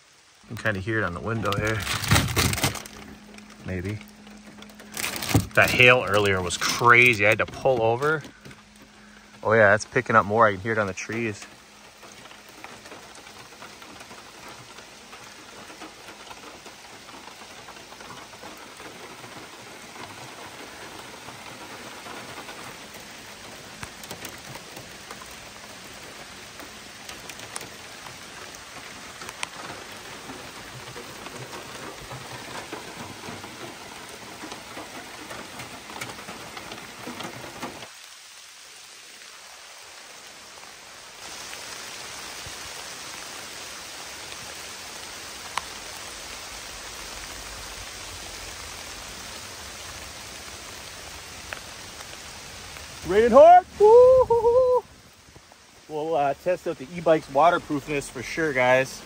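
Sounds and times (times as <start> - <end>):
heavy rain falling on trees: 0.0 - 59.0
sharp rain drop hits: 0.0 - 59.0.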